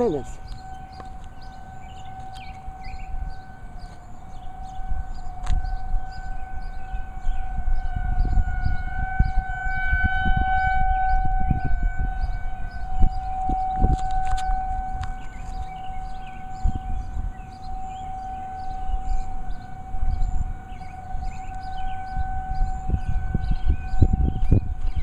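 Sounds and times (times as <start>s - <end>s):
warning siren wailing: 0.0s - 25.0s.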